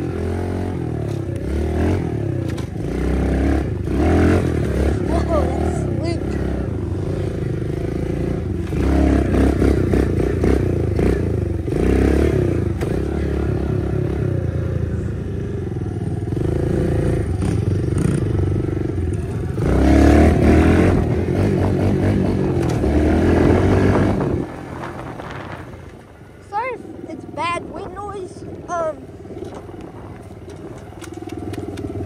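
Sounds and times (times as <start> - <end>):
motorbike engine revving: 0.0 - 32.0.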